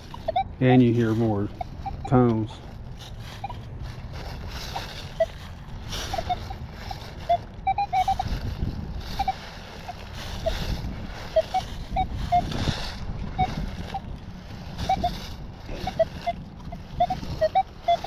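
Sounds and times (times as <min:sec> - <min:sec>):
metal detector beeps: 0:00.0 - 0:02.6, 0:03.3 - 0:03.7, 0:04.7 - 0:08.4, 0:09.0 - 0:14.2, 0:14.8 - 0:18.0.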